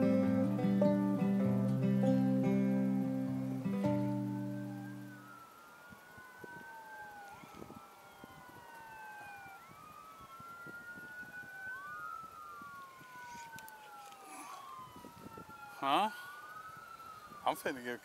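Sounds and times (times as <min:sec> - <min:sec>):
faint police siren wailing: 0:00.0 - 0:18.0.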